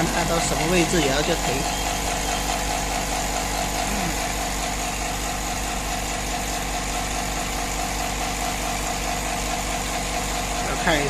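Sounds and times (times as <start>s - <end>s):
electric air compressor running: 0.0s - 11.0s.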